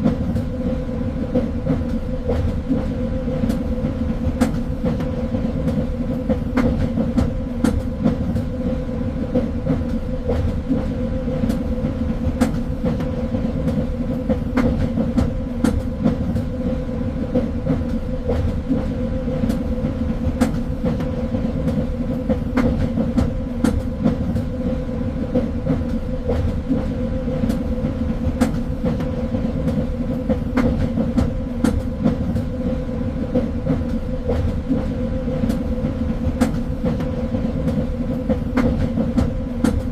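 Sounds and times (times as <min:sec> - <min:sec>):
train rumbling along track: 0:00.0 - 0:39.9.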